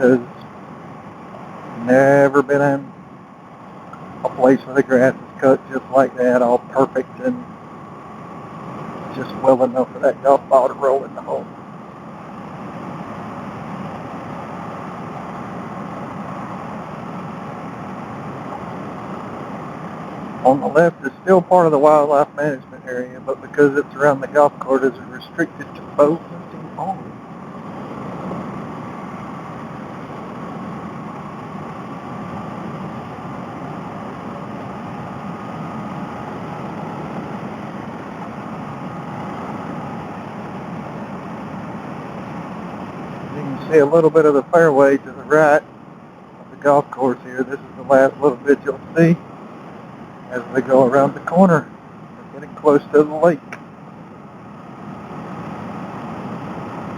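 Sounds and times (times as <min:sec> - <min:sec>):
road noise: 0:00.0 - 0:56.9.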